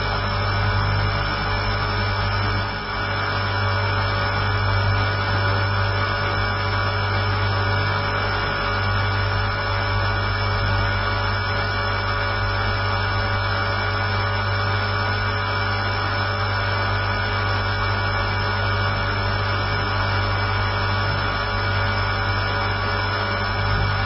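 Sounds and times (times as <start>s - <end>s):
motor and gears whining: 0.0s - 24.0s
rotor blades humming: 0.0s - 24.0s.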